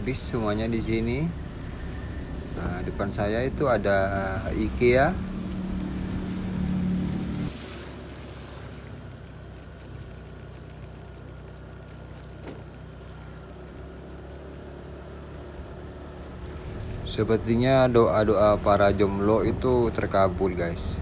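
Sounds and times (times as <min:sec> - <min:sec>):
motorcycle engine running: 0:00.0 - 0:07.5, 0:08.4 - 0:21.0.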